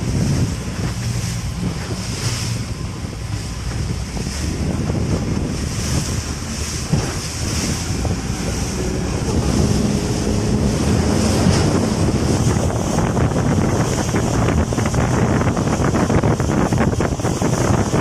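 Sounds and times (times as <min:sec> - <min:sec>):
sea water splashing: 0:00.0 - 0:18.0
wind buffeting microphone: 0:00.0 - 0:18.0.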